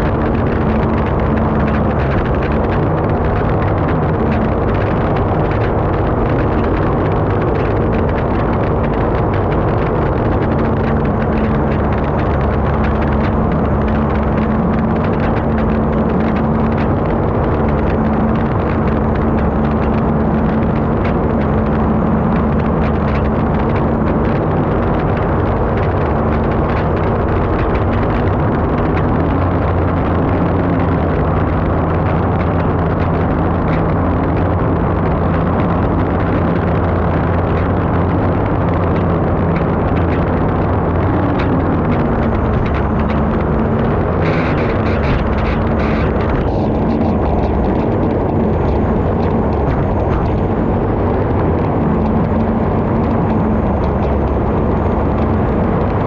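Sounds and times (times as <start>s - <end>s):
rushing wind and water: 0.0s - 56.0s
turbine engine drone: 0.0s - 56.0s.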